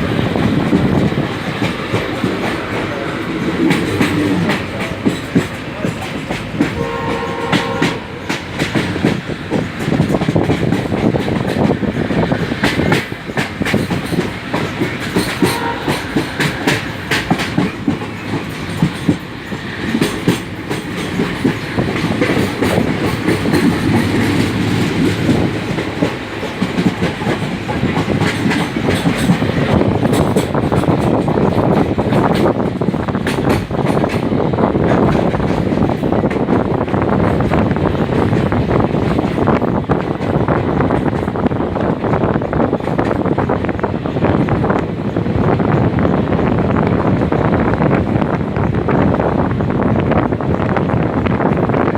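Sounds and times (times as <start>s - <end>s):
wheels clacking over rail joints: 0.0s - 43.6s
train rumbling: 0.0s - 51.9s.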